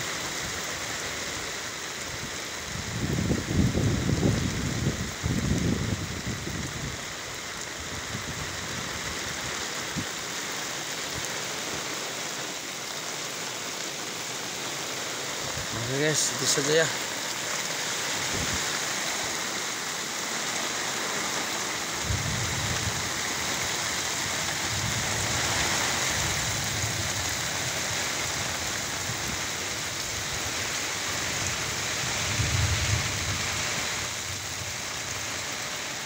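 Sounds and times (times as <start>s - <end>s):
heavy rain: 0.0s - 36.0s
wind: 0.0s - 36.0s.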